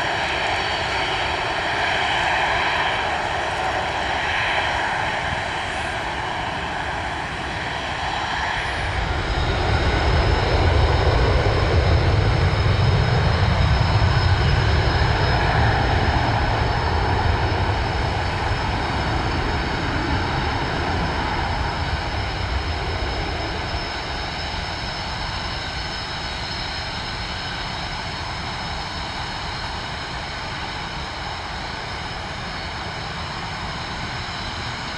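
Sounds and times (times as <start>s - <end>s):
airplane engines whining: 0.0s - 34.9s.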